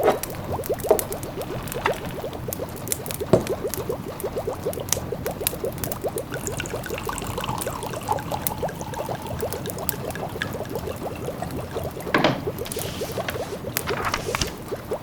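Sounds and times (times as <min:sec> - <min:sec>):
wood fire crackling: 0:00.0 - 0:07.2, 0:07.8 - 0:15.0
pot of food bubbling: 0:00.0 - 0:15.0.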